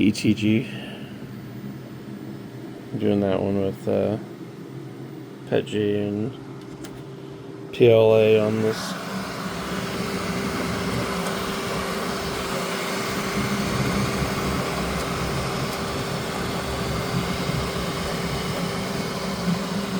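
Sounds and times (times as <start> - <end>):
motor whine shifting: 0.0 - 19.9
printer steady hum: 0.0 - 19.9.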